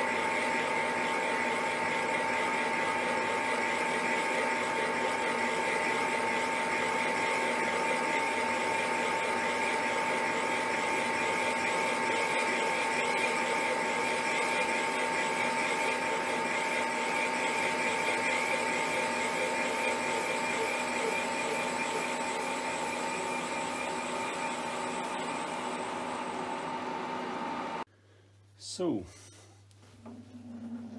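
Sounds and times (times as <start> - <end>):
milling machine high whine: 0.0 - 27.8.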